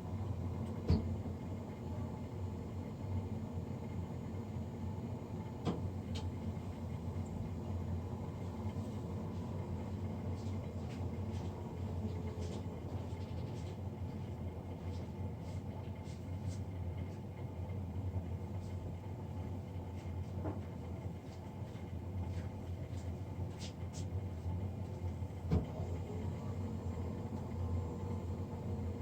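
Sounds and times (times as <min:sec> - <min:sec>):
boiler fan humming: 0:00.0 - 0:17.1, 0:21.2 - 0:29.0.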